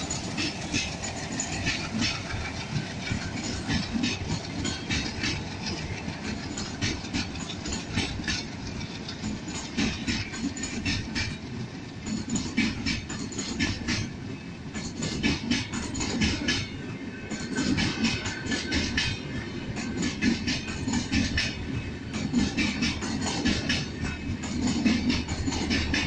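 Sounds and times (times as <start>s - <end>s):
train wheels rumbling on rails: 0.0s - 26.0s
wheels clacking over rail joints: 0.0s - 26.0s.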